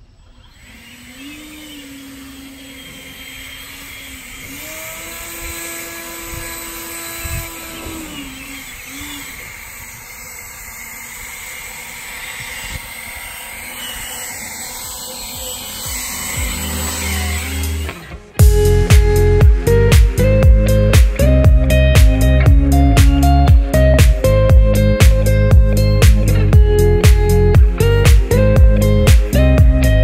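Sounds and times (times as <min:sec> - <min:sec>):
leaf blower running: 0:00.1 - 0:30.0.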